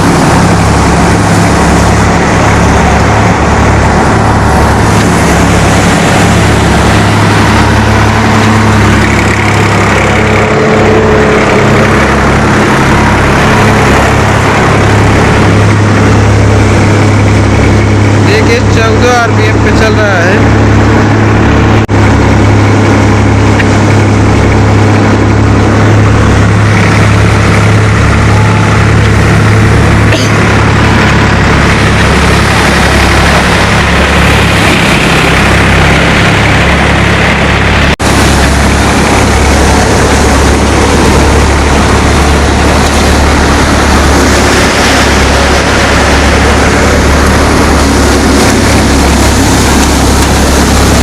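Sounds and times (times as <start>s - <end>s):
thresher noise: 0.0s - 51.0s
tractor engine drone: 0.0s - 51.0s.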